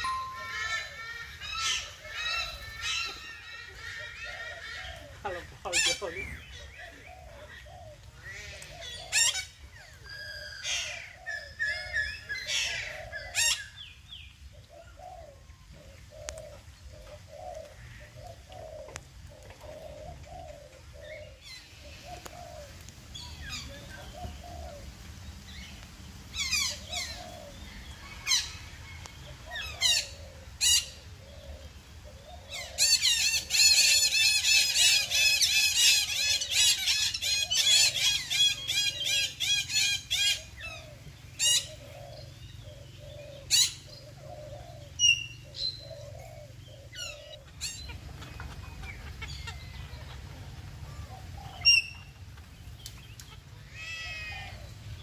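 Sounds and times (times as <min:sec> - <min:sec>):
dove cooing: 0:00.0 - 0:13.8, 0:14.5 - 0:25.2, 0:26.3 - 0:55.0.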